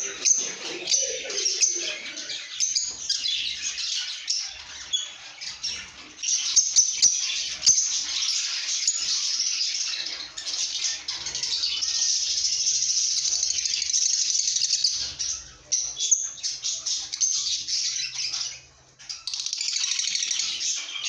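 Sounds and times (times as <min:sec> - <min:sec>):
birds chirping and twittering: 0:00.0 - 0:21.0.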